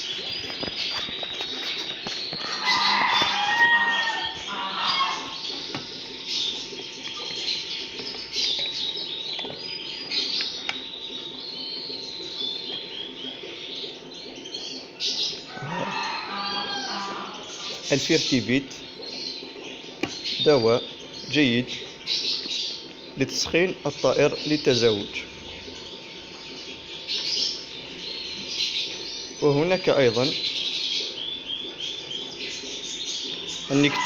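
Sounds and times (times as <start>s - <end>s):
small cage birds chirping: 0.0s - 34.0s.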